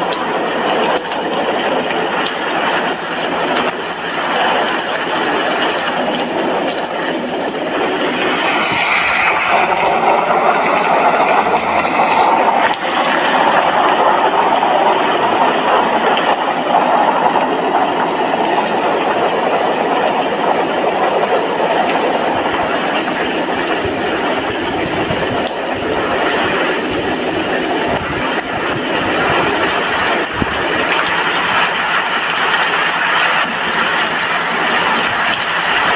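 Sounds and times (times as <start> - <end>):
steady rain hiss: 0.0 - 35.9.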